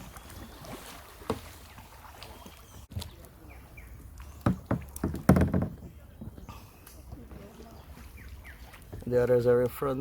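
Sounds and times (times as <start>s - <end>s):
canoe paddle strokes: 0.0s - 10.0s.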